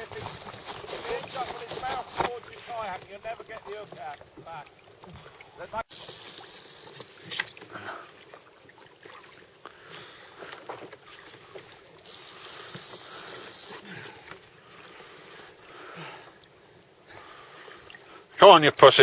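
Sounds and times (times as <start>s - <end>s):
water around a kayak: 0.0s - 19.0s.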